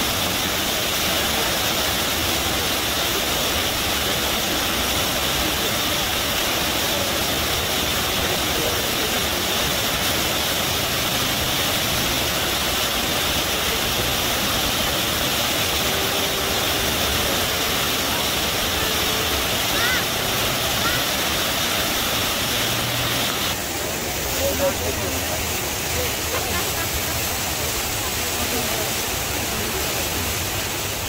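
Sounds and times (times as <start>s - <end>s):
river water gushing: 0.0s - 31.0s.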